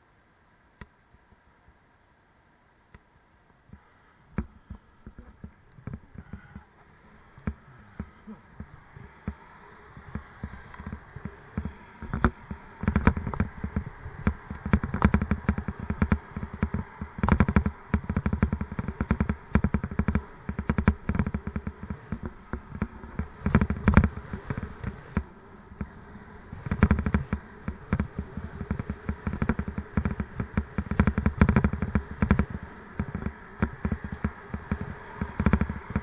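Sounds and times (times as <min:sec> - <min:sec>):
wind and tyre hiss: 0:00.0 - 0:36.0
bicycle rattling and knocking: 0:03.8 - 0:36.0.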